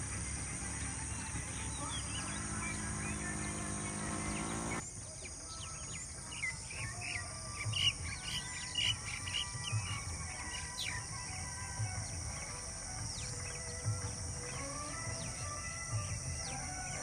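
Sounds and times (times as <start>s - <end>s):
birds chirping: 0.0s - 17.0s
insect drone: 0.0s - 17.0s.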